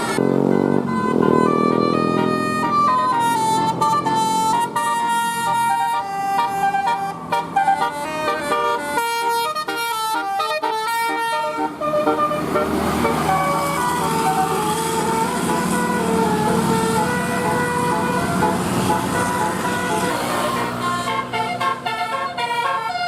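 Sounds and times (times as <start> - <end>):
musical air horn tune: 0.0 - 23.0.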